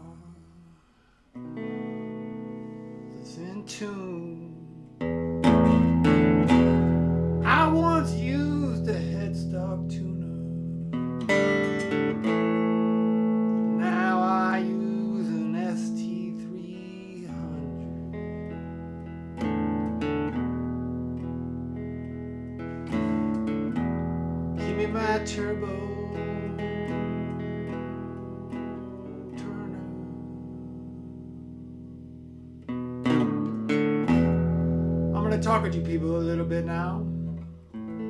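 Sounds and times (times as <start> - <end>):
electric guitar chords and notes: 0.0 - 38.0.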